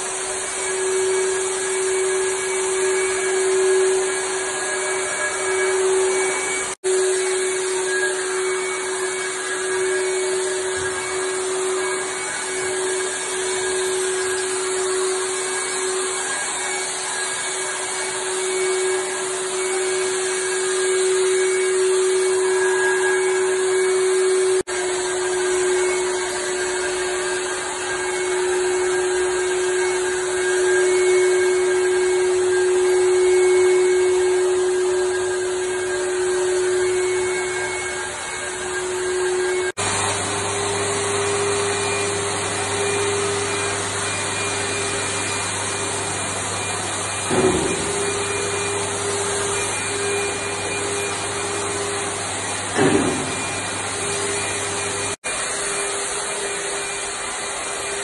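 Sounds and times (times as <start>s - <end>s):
electric sprayer motor hum: 0.0s - 58.0s.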